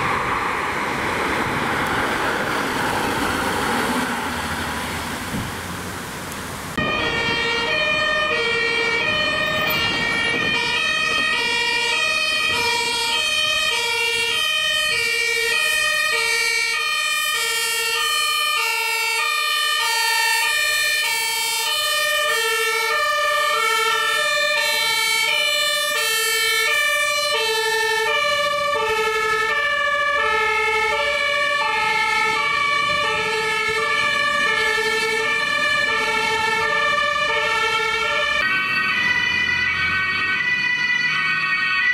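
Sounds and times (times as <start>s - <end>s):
two-tone fire truck sirens: 0.0s - 5.5s, 6.7s - 41.9s.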